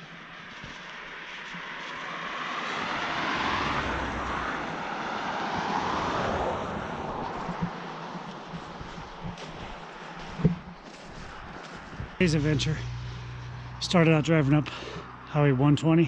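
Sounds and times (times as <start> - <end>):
vehicle passing by: 1.2 - 16.0.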